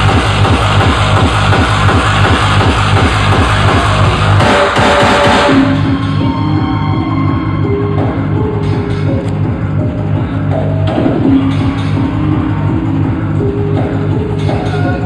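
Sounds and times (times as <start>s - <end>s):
electronic dance music: 0.0s - 15.0s.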